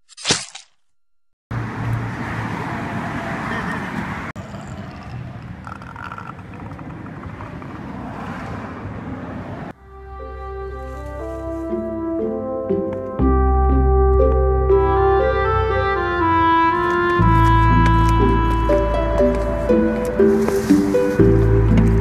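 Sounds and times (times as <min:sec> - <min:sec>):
road traffic noise: 0:01.5 - 0:22.0.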